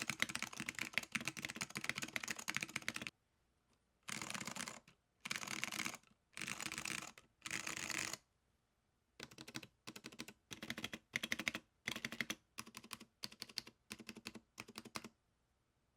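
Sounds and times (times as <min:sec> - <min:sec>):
mechanical keyboard typing: 0:00.0 - 0:03.1, 0:04.1 - 0:08.2, 0:09.2 - 0:15.1.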